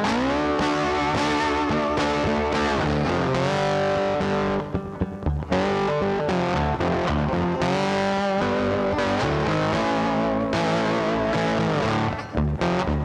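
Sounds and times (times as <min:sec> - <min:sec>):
guitar background music: 0:00.0 - 0:13.0.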